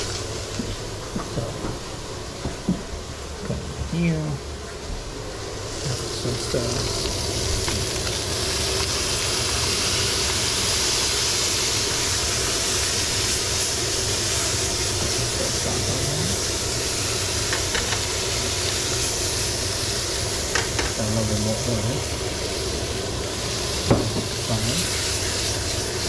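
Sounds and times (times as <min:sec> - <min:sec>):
fish sizzling in a pan: 0:00.0 - 0:01.2, 0:05.4 - 0:26.0.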